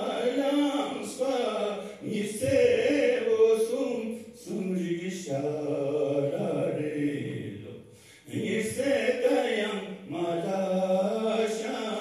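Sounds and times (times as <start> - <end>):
man singing slow chant-like song: 0.0 - 12.0.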